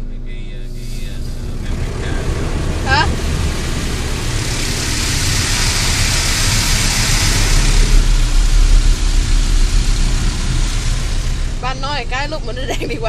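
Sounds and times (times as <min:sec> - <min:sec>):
low rumble: 0:00.0 - 0:13.0
water jets spraying on car: 0:00.7 - 0:13.0.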